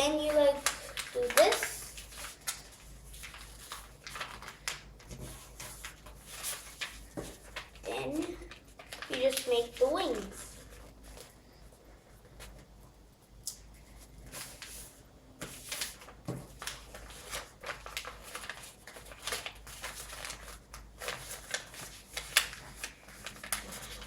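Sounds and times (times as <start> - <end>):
paper rustling and crackling: 0.0 - 12.7, 13.5 - 24.0.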